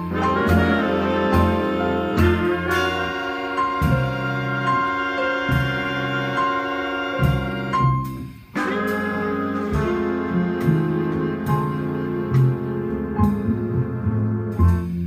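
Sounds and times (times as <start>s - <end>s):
big band jazz playing: 0.0s - 15.0s.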